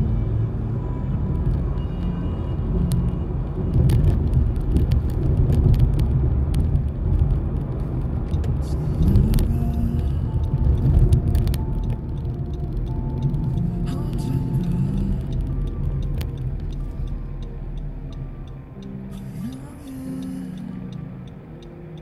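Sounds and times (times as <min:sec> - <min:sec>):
car engine and tyre rumble: 0:00.0 - 0:22.0
faint music from car stereo: 0:00.0 - 0:22.0.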